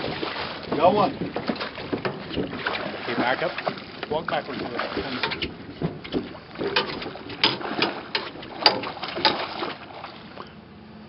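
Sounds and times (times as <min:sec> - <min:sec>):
fish splashing at water surface: 0:00.0 - 0:10.5.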